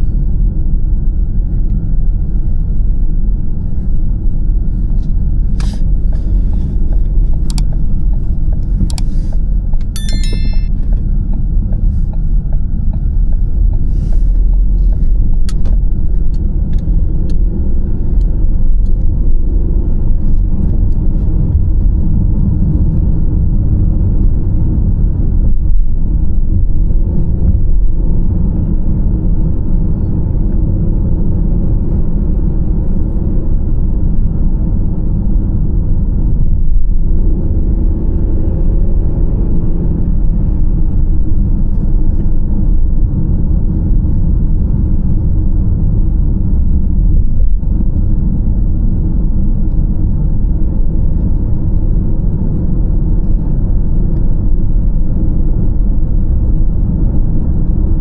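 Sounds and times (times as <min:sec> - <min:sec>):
car driving on asphalt: 0:00.0 - 0:10.0, 0:10.8 - 0:58.0.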